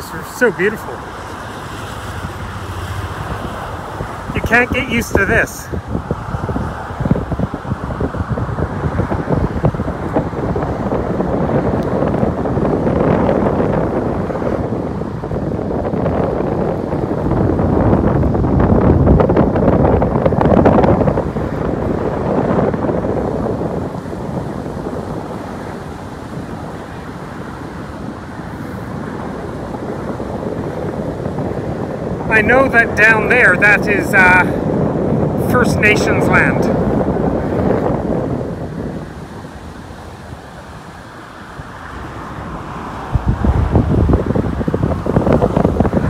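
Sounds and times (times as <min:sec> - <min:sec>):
road traffic rushing: 0:00.0 - 0:46.0
wind buffeting microphone: 0:00.0 - 0:46.0.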